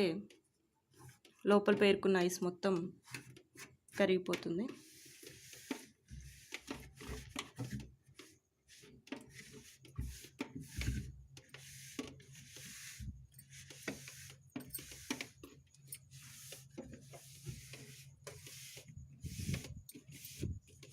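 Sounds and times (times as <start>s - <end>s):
cloth wiping plastic: 3.0s - 20.9s.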